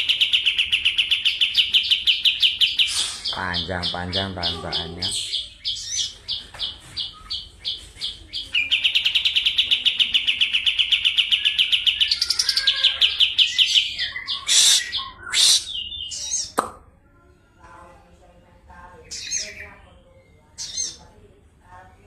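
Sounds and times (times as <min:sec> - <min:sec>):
songbird singing: 0:00.0 - 0:16.8, 0:18.4 - 0:21.3.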